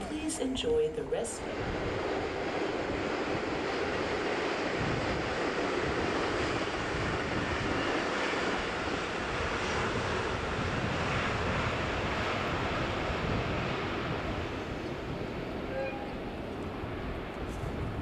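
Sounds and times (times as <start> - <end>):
distant electric train rumbling: 0.0 - 18.0
wind buffeting microphone: 0.0 - 18.0.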